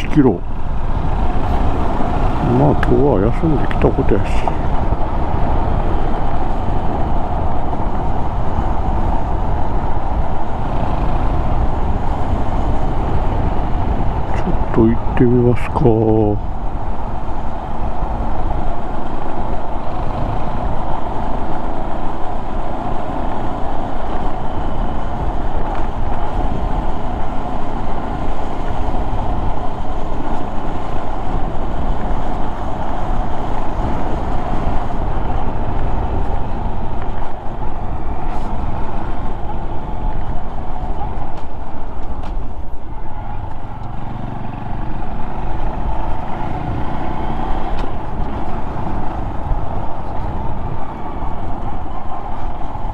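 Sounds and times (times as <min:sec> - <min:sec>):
wind and road noise: 0:00.0 - 0:52.9.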